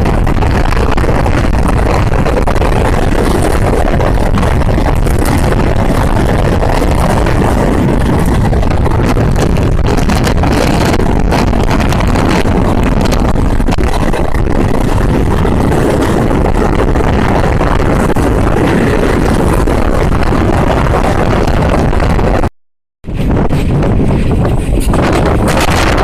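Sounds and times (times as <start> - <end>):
passenger train rumbling: 0.0 - 22.4, 23.1 - 26.0.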